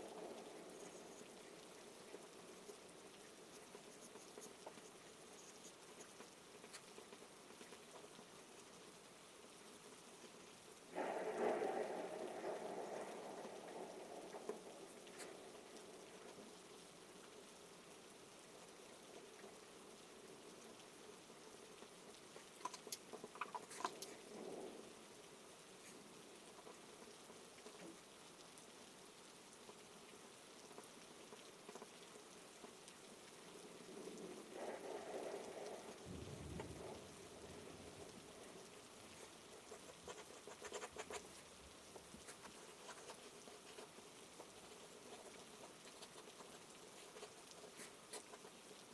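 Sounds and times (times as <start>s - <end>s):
soft steady rain: 0.0s - 48.9s.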